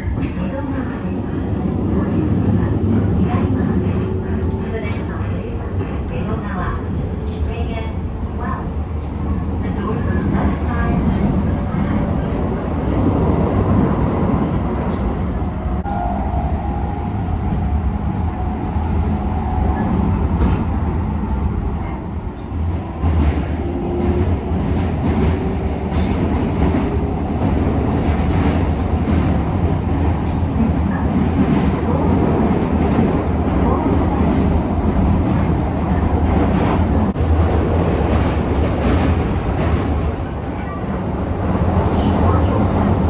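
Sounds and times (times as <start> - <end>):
train wheels rumbling on track: 0.0 - 43.0.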